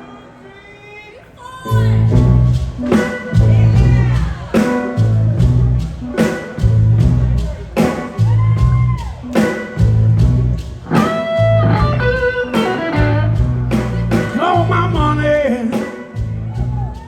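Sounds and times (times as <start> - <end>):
guitar with bent notes: 1.6 - 17.0
blues-rock band playing: 1.7 - 17.0.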